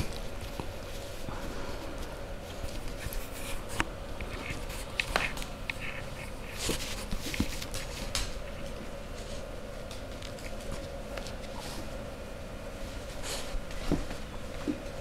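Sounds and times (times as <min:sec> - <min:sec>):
faint steady hum: 0:00.0 - 0:15.0
puppies scuffling on fabric: 0:00.0 - 0:15.0.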